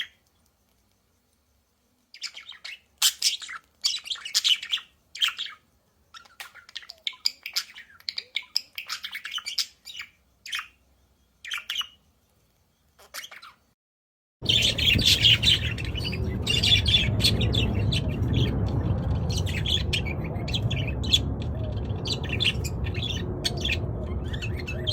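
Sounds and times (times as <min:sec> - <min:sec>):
budgerigars chirping: 0:02.2 - 0:10.8, 0:11.4 - 0:12.0, 0:13.0 - 0:13.6, 0:14.4 - 0:24.9.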